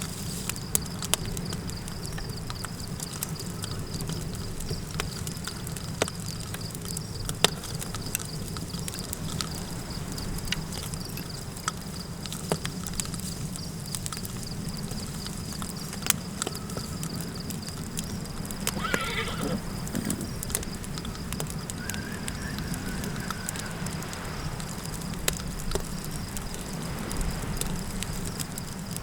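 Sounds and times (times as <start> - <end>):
campfire crackling and popping: 0.0 - 29.0
high insect trill: 0.0 - 29.0
low wind rumble: 1.2 - 29.0.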